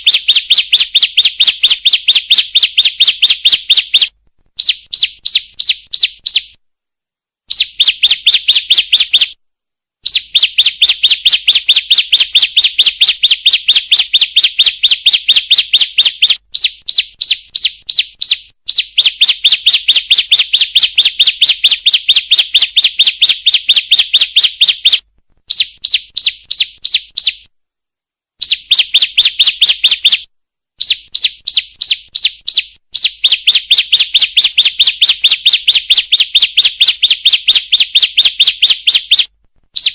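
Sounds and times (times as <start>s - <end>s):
bird sharp high chirps: 0.0s - 6.6s, 7.5s - 9.4s, 10.0s - 27.5s, 28.4s - 39.9s.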